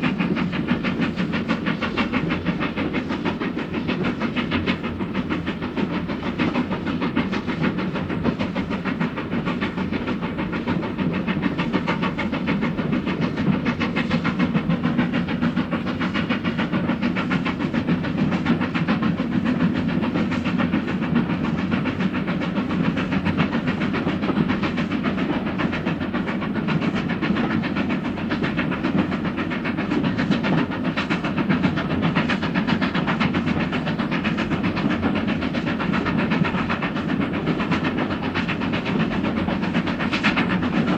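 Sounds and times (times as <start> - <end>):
train rhythmic clatter: 0.0 - 40.9.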